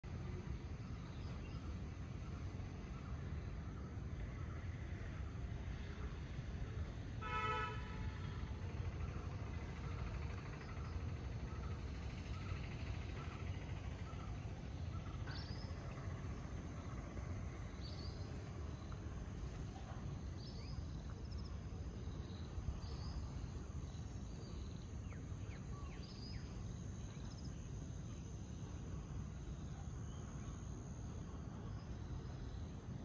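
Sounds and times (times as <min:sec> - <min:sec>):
low steady rumble: 0:00.1 - 0:33.0.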